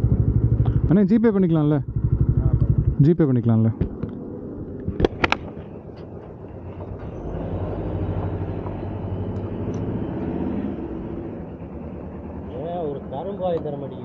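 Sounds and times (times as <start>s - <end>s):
motorcycle engine at low revs: 0.0s - 14.0s.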